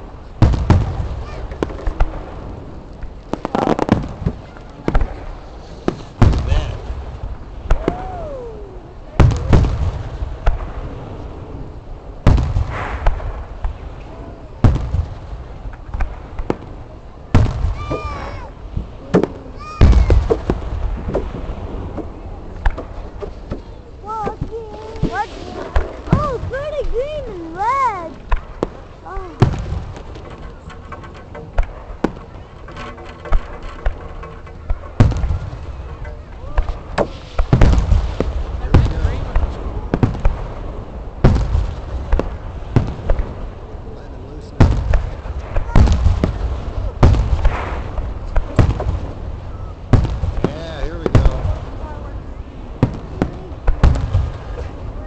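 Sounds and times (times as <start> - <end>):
fireworks booming: 0.0 - 55.0
fireworks cracks: 0.0 - 55.0
rumbling echo: 0.0 - 55.0
steady background noise: 0.0 - 55.0.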